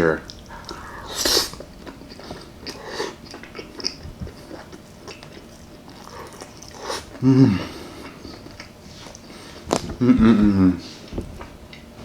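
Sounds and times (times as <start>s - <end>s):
person chewing food: 0.0s - 11.8s.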